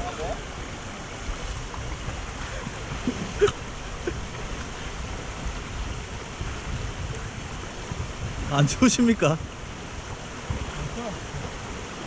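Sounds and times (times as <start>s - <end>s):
stream water flowing: 0.0s - 12.0s
wind buffeting microphone: 0.0s - 12.0s.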